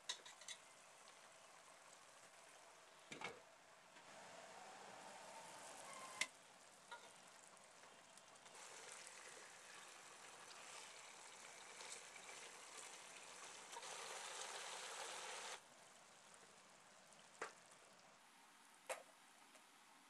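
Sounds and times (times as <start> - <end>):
faint sizzling and bubbling gravy: 0.0 - 20.0.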